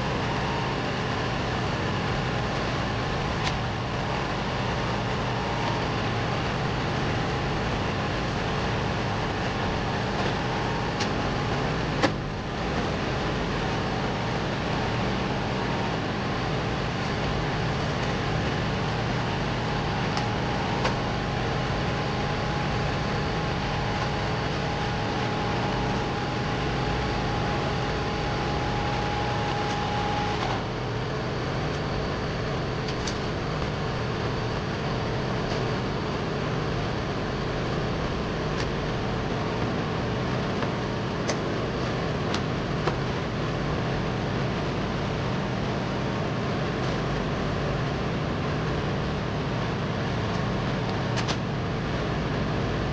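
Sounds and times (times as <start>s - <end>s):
air conditioning fans running: 0.0s - 52.9s.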